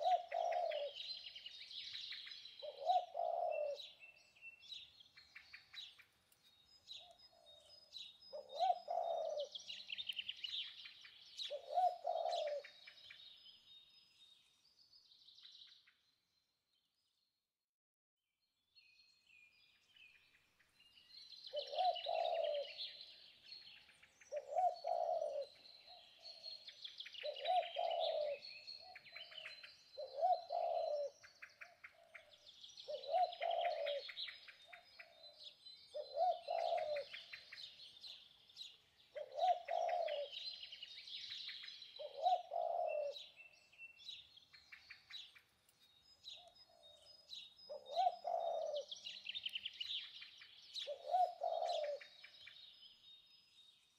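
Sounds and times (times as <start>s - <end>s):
low cooing bird call: 0.0s - 6.1s, 6.8s - 13.4s, 21.3s - 45.4s, 46.2s - 52.8s
birds chirping and twittering: 0.0s - 17.3s, 18.6s - 53.9s.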